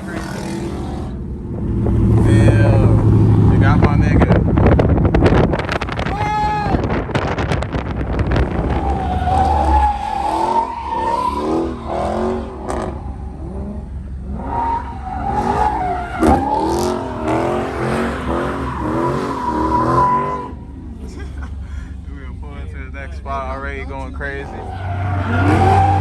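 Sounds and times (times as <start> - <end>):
car tires squealing: 0.0 - 21.7, 23.8 - 26.0
car engine running: 0.0 - 26.0.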